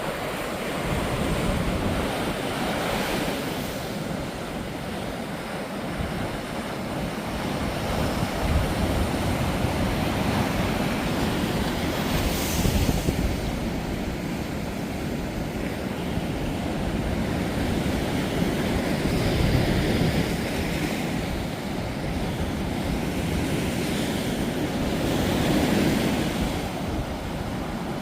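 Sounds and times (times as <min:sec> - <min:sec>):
surf breaking on beach: 0:00.0 - 0:28.0.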